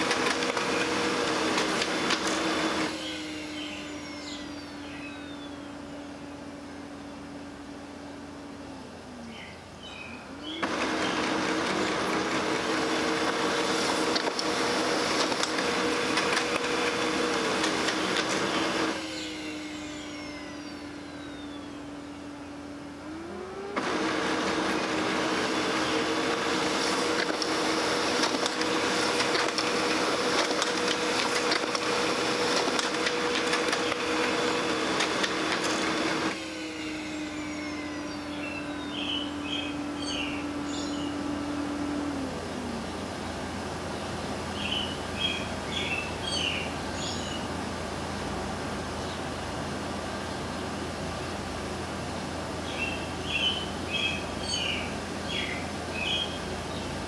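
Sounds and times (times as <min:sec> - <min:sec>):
laser printer motors whirring: 0:00.0 - 0:09.4, 0:10.2 - 0:47.3.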